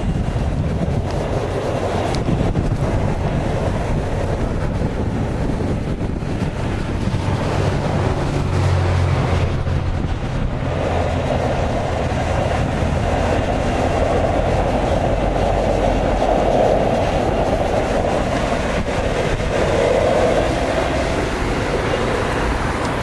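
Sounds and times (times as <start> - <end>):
steam venting: 0.0 - 23.0.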